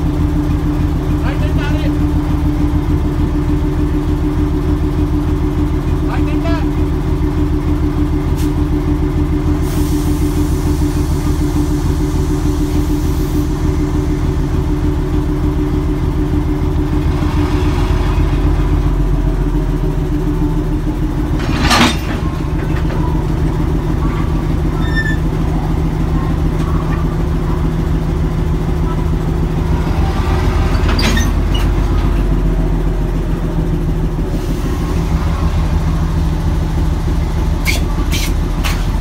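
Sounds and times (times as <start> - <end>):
diesel locomotive engine idling: 0.0 - 39.0.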